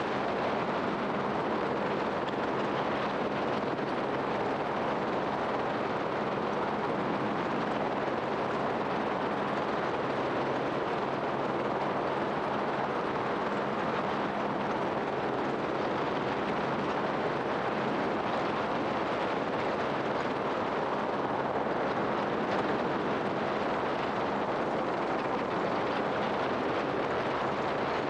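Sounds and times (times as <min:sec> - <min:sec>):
wind noise: 0:00.0 - 0:28.0.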